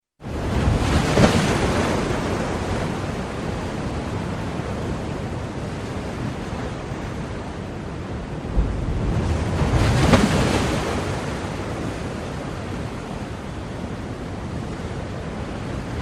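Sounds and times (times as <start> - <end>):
ocean waves on shore: 0.2 - 16.0.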